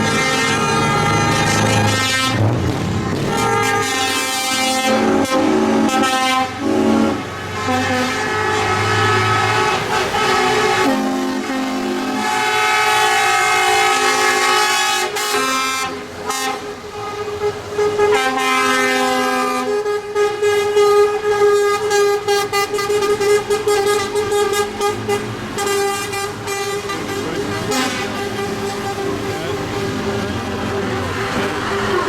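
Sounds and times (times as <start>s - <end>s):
vehicle horns sounding: 0.0s - 2.5s, 3.2s - 32.0s.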